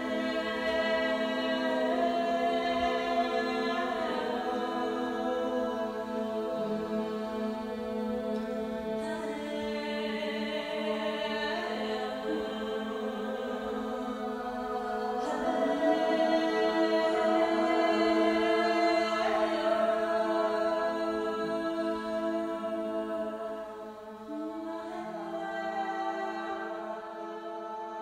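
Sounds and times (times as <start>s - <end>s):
long held vocal chords: 0.0s - 28.0s.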